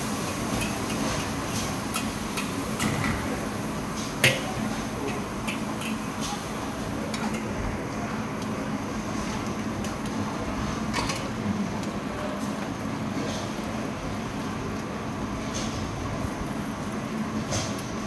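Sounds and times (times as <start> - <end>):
frying hiss: 0.0 - 18.0.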